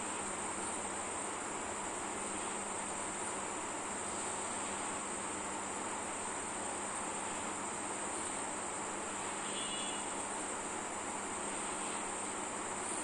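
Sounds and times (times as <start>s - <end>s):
high-pitched background hiss: 0.0s - 13.0s.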